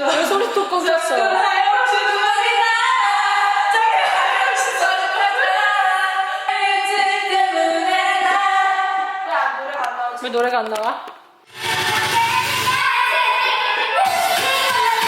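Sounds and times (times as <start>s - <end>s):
women singing together: 0.0s - 10.0s, 11.6s - 15.0s.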